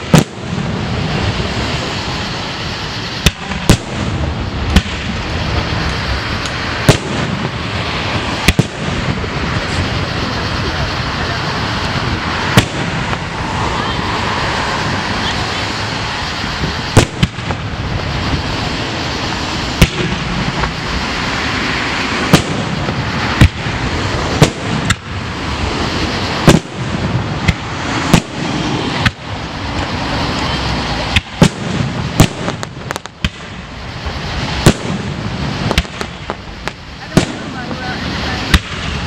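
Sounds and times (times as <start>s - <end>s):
firework shells bursting: 0.0s - 39.0s
steady background noise: 0.0s - 39.0s.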